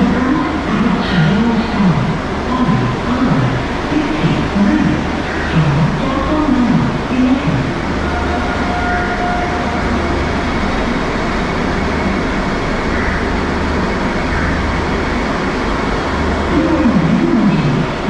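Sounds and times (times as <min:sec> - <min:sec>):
faint steady tones: 0:00.0 - 0:18.0
low hum: 0:00.0 - 0:18.0.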